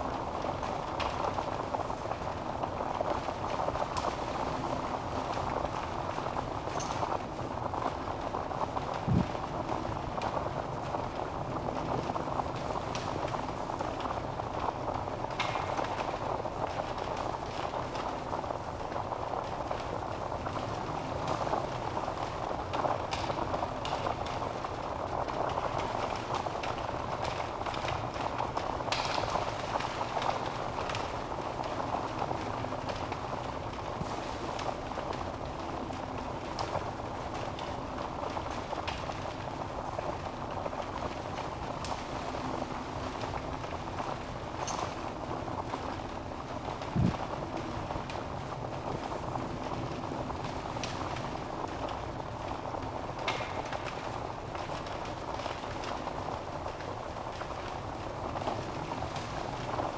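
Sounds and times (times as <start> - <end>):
fire flames hissing: 0.0 - 59.9
wood crackling and popping: 0.0 - 59.9.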